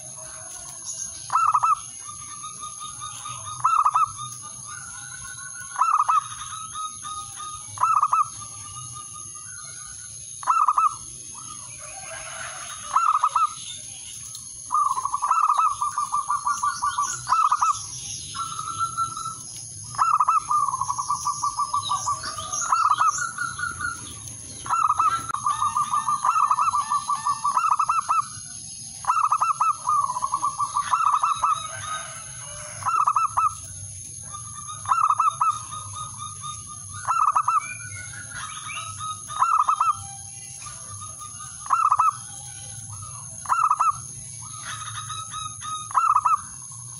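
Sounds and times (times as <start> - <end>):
dove cooing: 0.0 - 13.6, 14.7 - 46.6.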